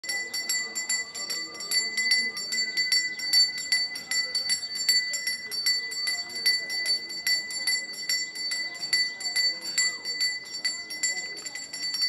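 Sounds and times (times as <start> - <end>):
brass hand bell ringing rapidly: 0.0 - 12.0.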